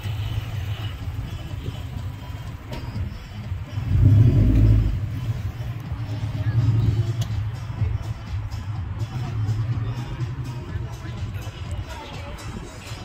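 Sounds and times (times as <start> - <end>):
car engine idling and revving: 0.0 - 12.6.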